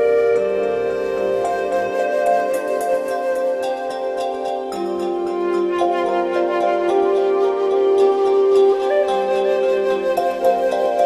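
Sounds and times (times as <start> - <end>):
new-age music with held notes: 0.0 - 11.0.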